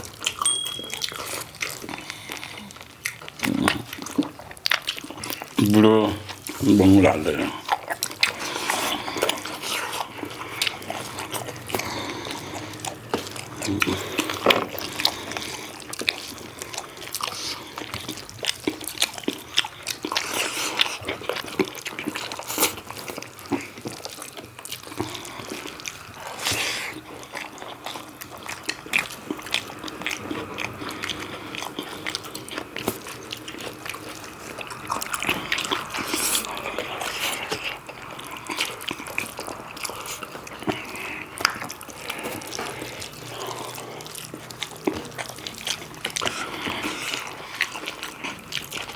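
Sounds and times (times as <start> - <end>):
wet chewing: 0.0 - 48.9.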